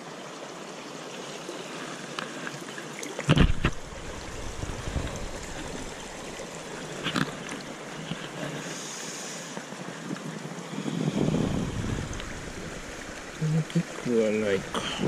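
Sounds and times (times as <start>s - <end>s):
shallow river flowing: 0.0s - 15.0s.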